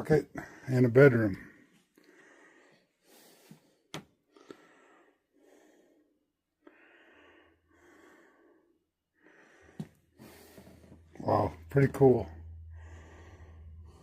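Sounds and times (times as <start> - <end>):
man breathing slowly: 1.4 - 14.0.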